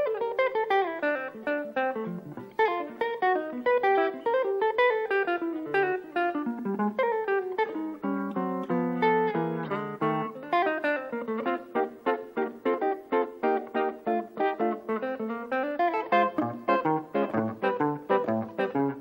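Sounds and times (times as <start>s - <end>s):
electric jazz guitar: 0.0s - 19.0s.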